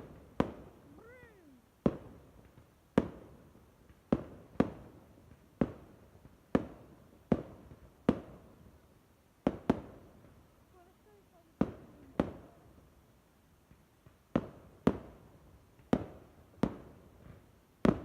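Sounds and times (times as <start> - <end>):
fireworks exploding: 0.0 - 18.0.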